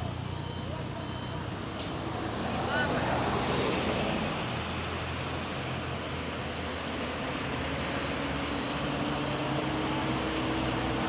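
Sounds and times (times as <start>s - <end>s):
outdoor background noise: 0.0s - 11.0s
truck diesel engine running: 0.0s - 11.0s.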